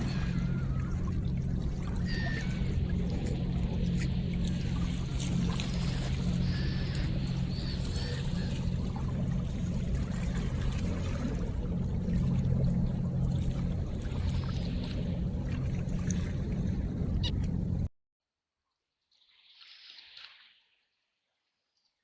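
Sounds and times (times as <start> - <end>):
running water: 0.0 - 17.7
steady low hum: 0.0 - 17.9.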